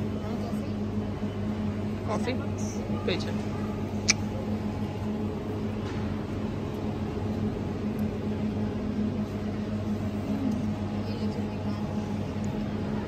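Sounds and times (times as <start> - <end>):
refrigerator electrical hum: 0.0 - 13.0.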